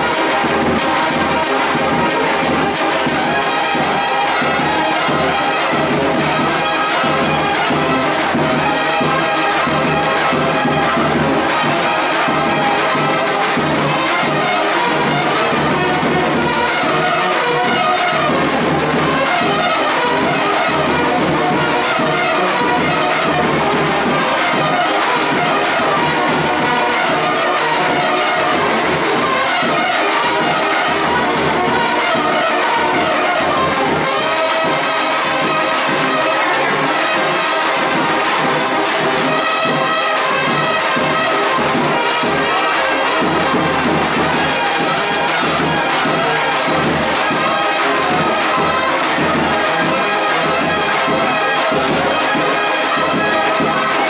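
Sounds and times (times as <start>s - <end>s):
brass band playing: 0.0s - 54.0s
trumpets carrying melody: 0.0s - 54.0s.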